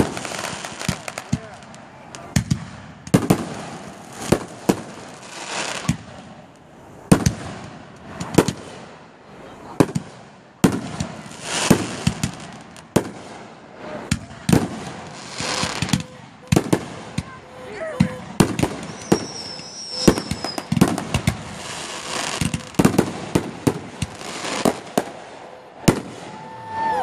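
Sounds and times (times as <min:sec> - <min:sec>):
fireworks bangs: 0:00.0 - 0:27.0
fireworks crackling hiss: 0:00.0 - 0:27.0.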